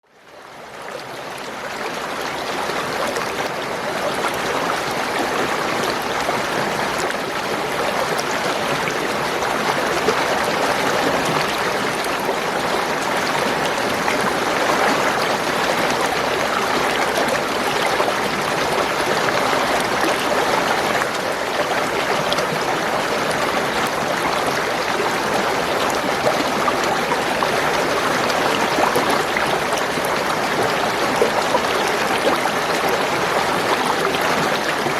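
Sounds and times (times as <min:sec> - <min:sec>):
water gurgling and trickling: 0:00.4 - 0:34.9.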